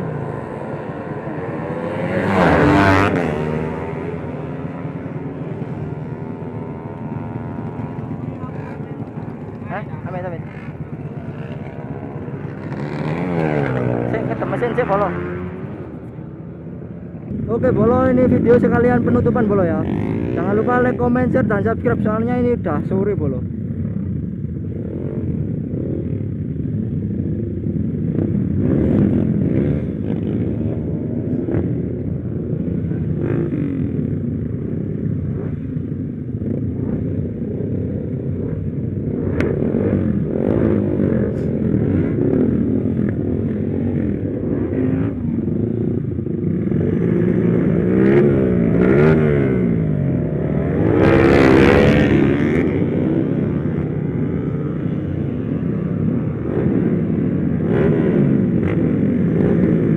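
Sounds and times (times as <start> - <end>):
other motorcycle engines: 0.0 - 59.9.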